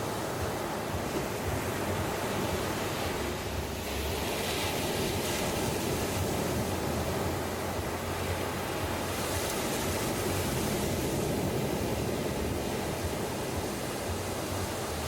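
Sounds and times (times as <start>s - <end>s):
ocean surf on beach: 0.0s - 15.0s.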